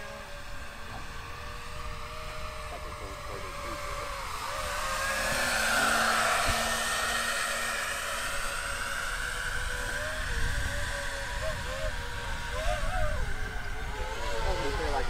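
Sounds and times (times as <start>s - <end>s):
electric ducted-fan motors whining: 0.0s - 15.0s.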